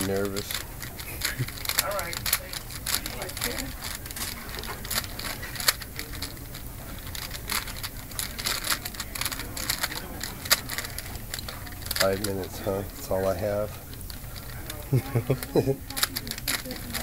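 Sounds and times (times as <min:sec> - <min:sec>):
puzzle cube plastic clicks: 0:00.0 - 0:17.0.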